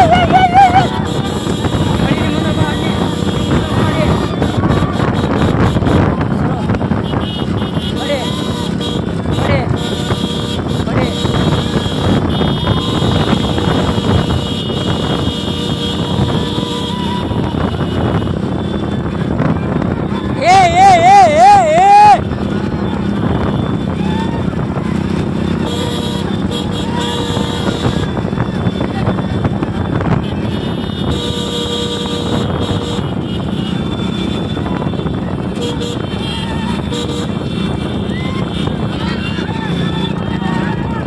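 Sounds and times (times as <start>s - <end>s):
motorcycle engines running: 0.0s - 41.0s
wind on microphone: 0.0s - 41.0s.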